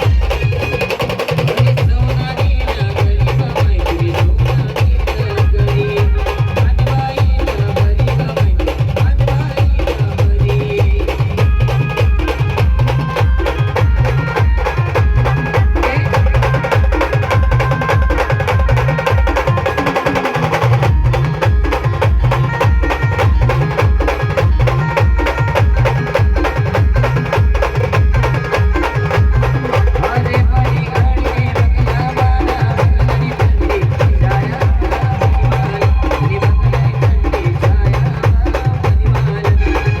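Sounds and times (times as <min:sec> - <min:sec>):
drum roll: 0:00.0 - 0:40.0
live band music with heavy bass: 0:00.0 - 0:40.0.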